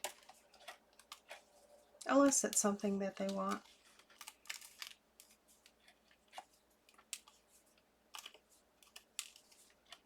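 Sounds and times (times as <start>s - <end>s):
light clicks of card pieces: 0.0s - 10.0s.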